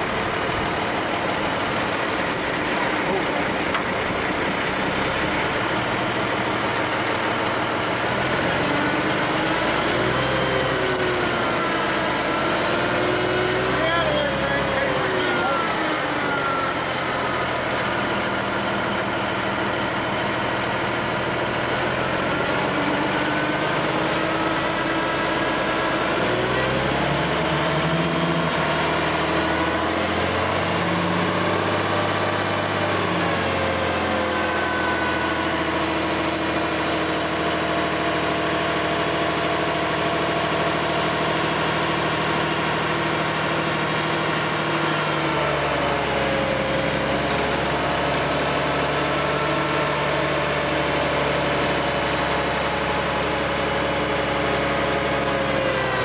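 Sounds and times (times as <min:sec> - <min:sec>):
machine engine running: 0:00.0 - 0:56.0.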